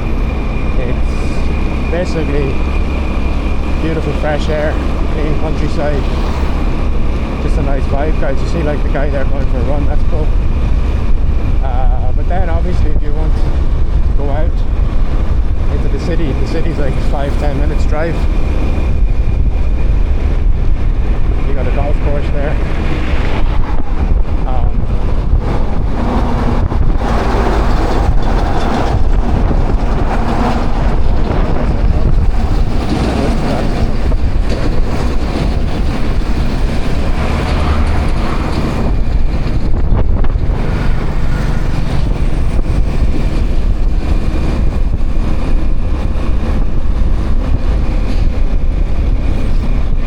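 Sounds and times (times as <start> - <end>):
motorbike road noise: 0.0 - 50.0
wind buffeting microphone: 0.0 - 50.0.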